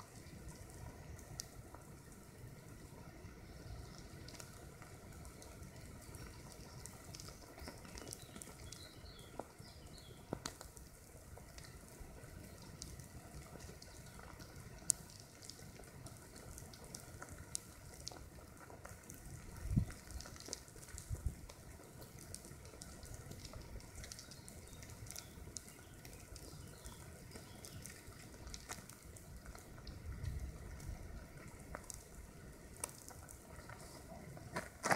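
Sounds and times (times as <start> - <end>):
ants crawling crackling sizzle: 0.0 - 34.9.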